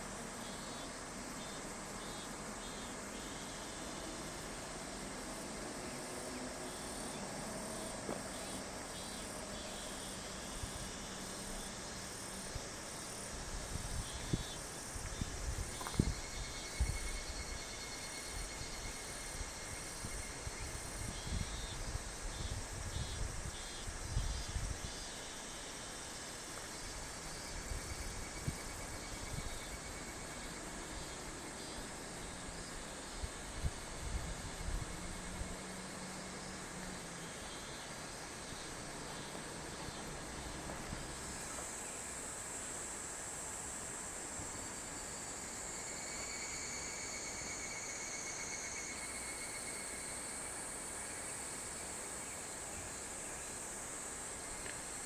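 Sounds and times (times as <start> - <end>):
background hiss: 0.0 - 55.0
insects chirping: 0.0 - 55.0.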